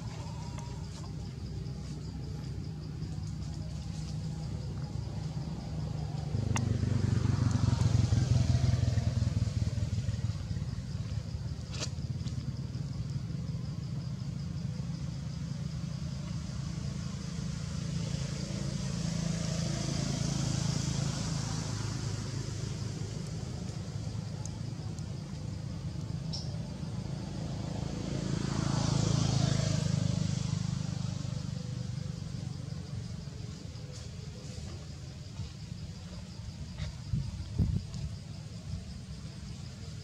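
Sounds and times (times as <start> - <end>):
vehicle engine hum: 0.0 - 40.0.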